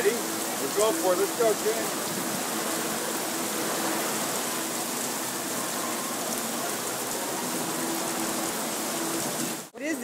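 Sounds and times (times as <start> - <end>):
heavy rain on paving: 0.0 - 10.0.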